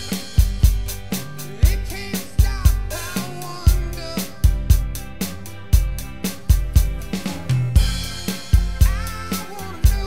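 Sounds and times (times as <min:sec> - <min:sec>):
backing guitars and bass: 0:00.0 - 0:10.0
electronic drum kit rock beat: 0:00.0 - 0:10.0.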